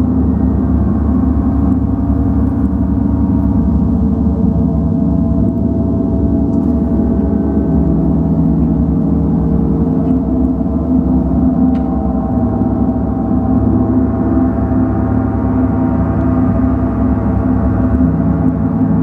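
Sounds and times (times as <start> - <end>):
gong ringing: 0.0 - 19.0.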